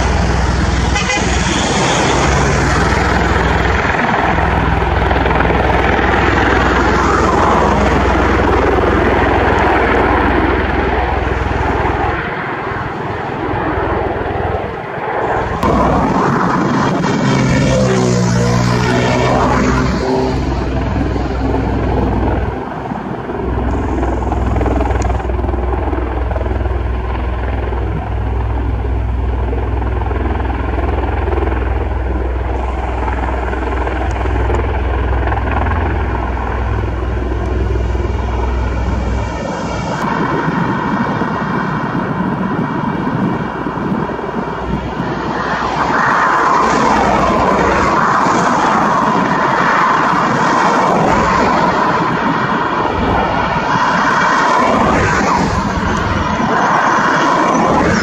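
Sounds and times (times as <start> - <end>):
tiltrotor aircraft engines and rotors: 0.0 - 58.0.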